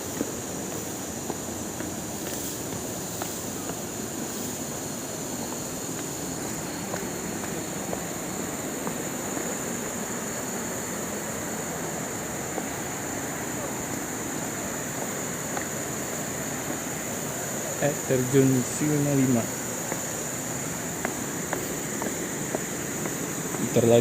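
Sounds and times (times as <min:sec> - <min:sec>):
river water rushing: 0:03.8 - 0:24.0.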